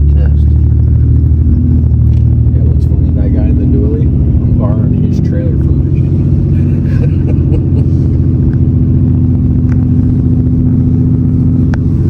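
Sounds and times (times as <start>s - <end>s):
pickup truck engine running: 0.0s - 12.0s.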